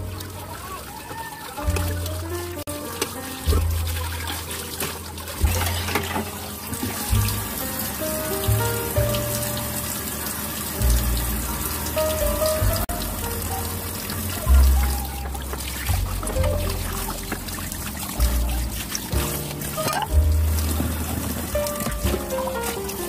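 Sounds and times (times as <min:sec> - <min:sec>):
dishes being washed: 0:00.0 - 0:23.0
tap water running into steel sink: 0:00.0 - 0:23.0
background music with deep bass: 0:01.6 - 0:23.0.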